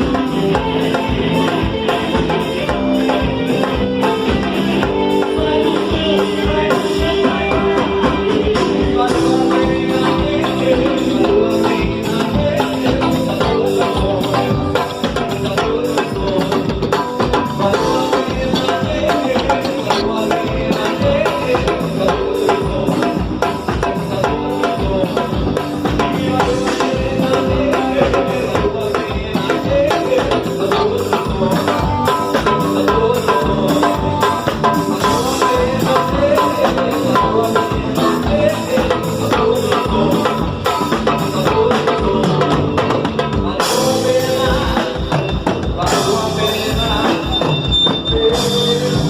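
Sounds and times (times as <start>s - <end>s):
band music with drums: 0.0s - 49.0s.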